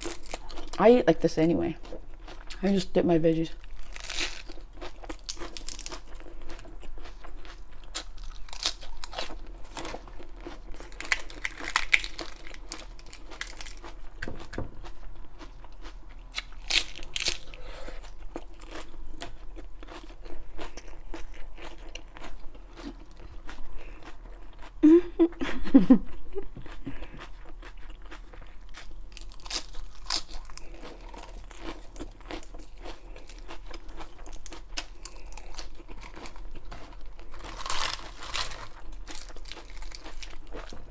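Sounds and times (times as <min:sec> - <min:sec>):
chewing and crunching lettuce: 0:00.0 - 0:40.9.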